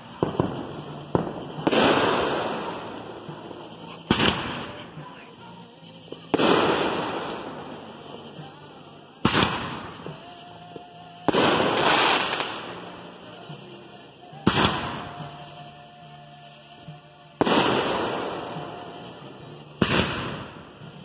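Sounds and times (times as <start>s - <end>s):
fireworks bangs: 0.0s - 5.4s, 6.1s - 8.6s, 9.2s - 15.8s, 17.4s - 21.0s
fireworks hiss: 0.0s - 21.0s.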